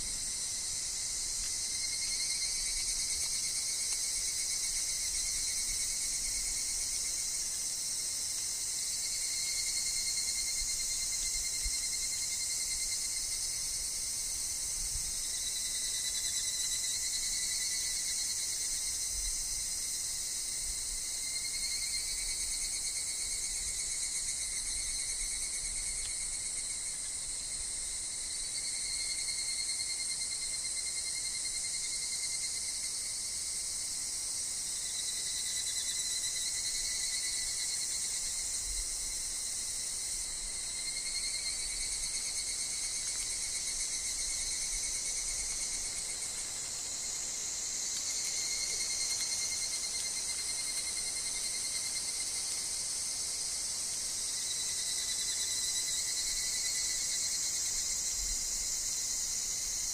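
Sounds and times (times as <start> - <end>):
cicadas and insects droning: 0.0 - 59.9.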